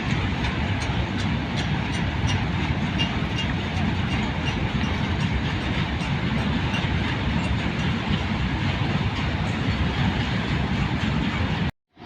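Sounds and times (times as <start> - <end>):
train passing at high speed: 0.0 - 12.0
wheels rumbling on track: 0.0 - 12.0.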